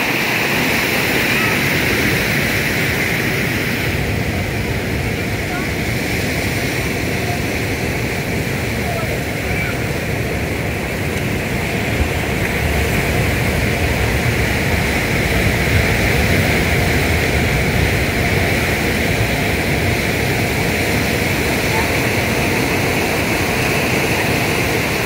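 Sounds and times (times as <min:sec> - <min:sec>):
ocean surf: 0:00.0 - 0:25.0
wind buffeting microphone: 0:00.0 - 0:25.0.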